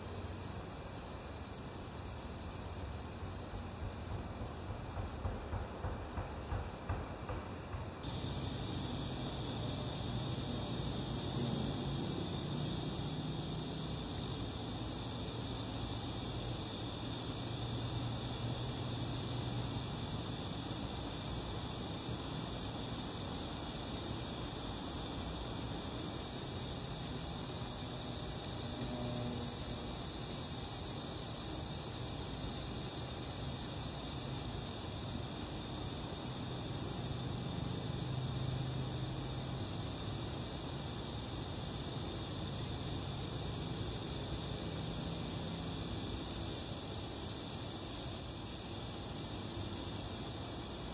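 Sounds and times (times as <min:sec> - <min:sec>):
insects chirping chorus: 0:00.0 - 0:50.9.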